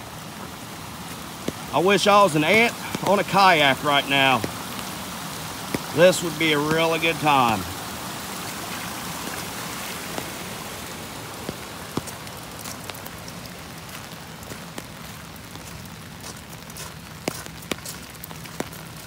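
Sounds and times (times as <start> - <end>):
rain patter: 0.0 - 19.0
raindrops ticking near microphone: 0.0 - 19.0.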